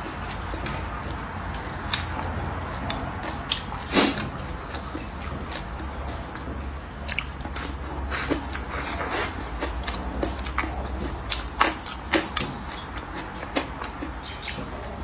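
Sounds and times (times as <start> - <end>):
close chewing: 0.0 - 15.0
steady low hum: 0.0 - 15.0
wet mouth clicks: 1.8 - 5.8, 6.4 - 14.6.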